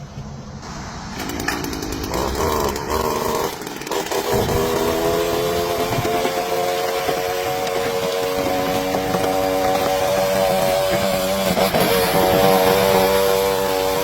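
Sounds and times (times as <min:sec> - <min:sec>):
small engine humming: 0:01.2 - 0:14.0.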